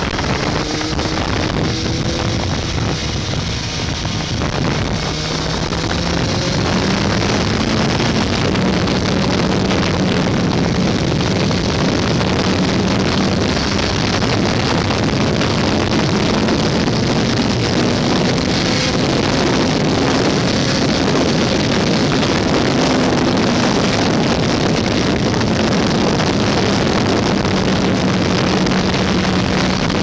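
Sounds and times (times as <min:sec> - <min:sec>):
motorcycle engine accelerating: 0:00.0 - 0:30.0
wind buffeting microphone: 0:00.0 - 0:30.0.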